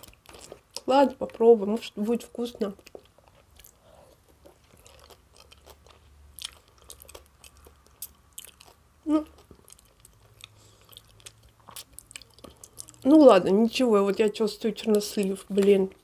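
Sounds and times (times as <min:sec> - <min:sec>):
chewing salad: 0:00.0 - 0:16.0.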